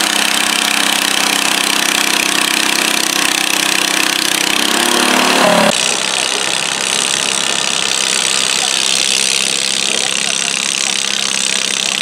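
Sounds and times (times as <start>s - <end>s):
dull steady noise: 0.0s - 12.0s
tractor engine running under load: 0.0s - 12.0s.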